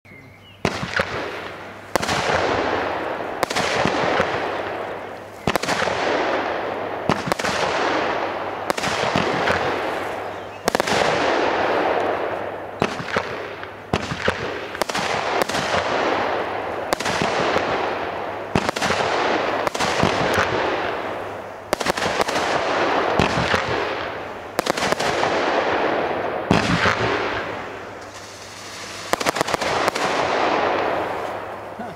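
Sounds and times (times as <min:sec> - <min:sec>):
firework bangs: 0:00.6 - 0:31.9
firework crackling hiss: 0:00.6 - 0:31.9.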